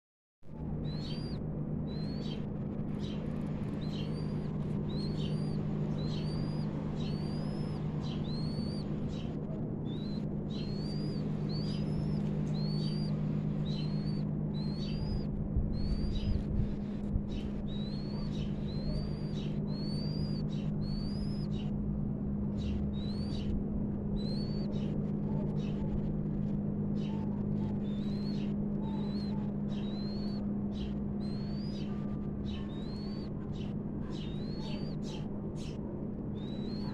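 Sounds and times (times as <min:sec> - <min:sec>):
steady low hum: 0:00.5 - 0:36.9
bird chirping: 0:00.6 - 0:21.7, 0:22.5 - 0:26.0, 0:26.9 - 0:36.9.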